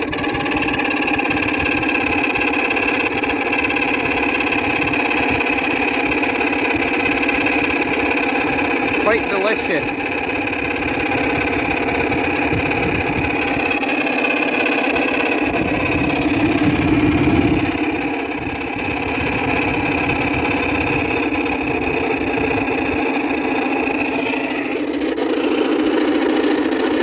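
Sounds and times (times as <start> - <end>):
air conditioner fan whine and hum: 0.0 - 26.7.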